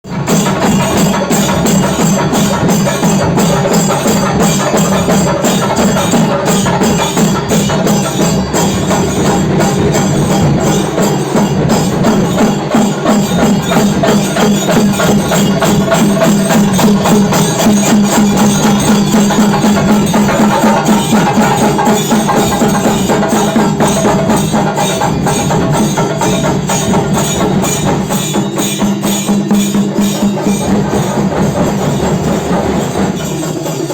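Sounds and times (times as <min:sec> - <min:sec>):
drums beaten in fast rhythm: 0:00.0 - 0:33.9.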